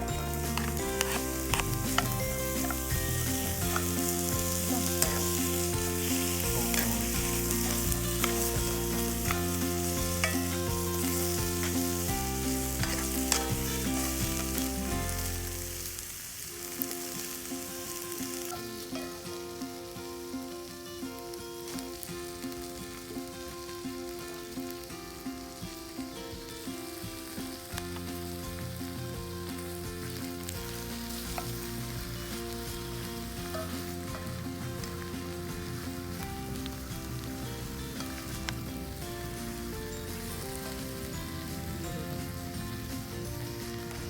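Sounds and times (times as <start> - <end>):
background music: 0.0 - 44.0
food sizzling in a pan: 0.0 - 44.0.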